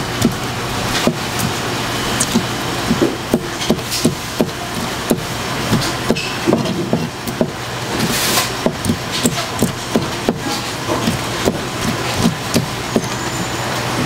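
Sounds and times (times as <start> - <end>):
steady background noise: 0.0 - 14.0
knife chopping on cutting board: 0.2 - 1.6, 2.2 - 13.2.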